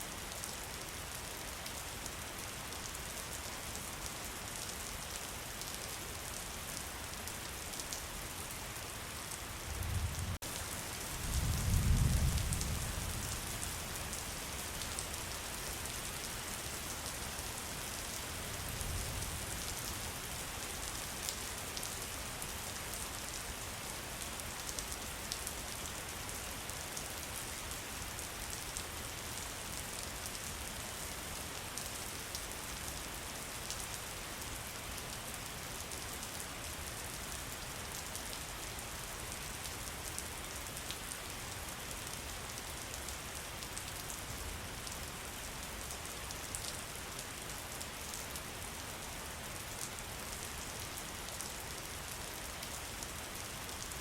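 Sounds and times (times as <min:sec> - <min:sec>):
rain pattering on foliage: 0:09.3 - 0:54.0.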